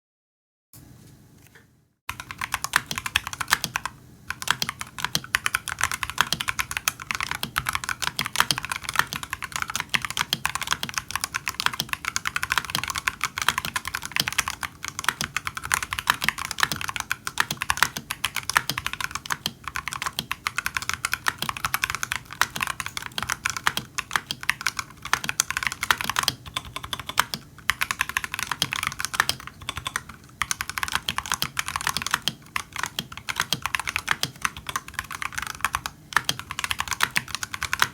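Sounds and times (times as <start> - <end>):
mechanical keyboard typing: 2.1 - 37.9.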